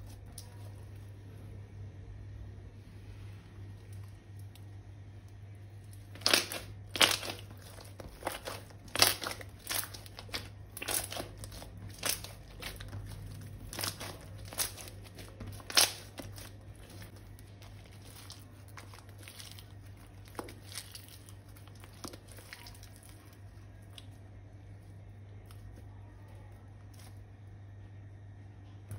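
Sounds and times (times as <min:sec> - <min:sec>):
crinkling and crackling: 0:00.0 - 0:01.6, 0:03.5 - 0:27.5
steady low hum: 0:00.0 - 0:28.9.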